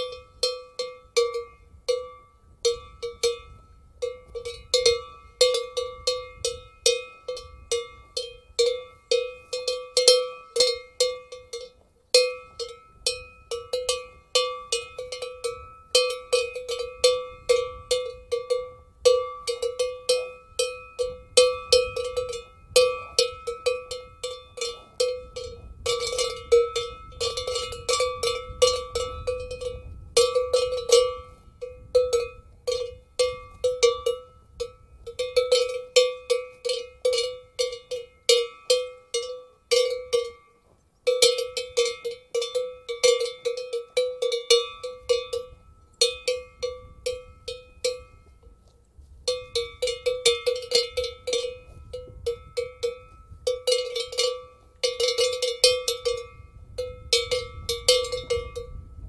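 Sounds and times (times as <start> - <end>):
metal cowbell clanking: 0.0 - 59.0.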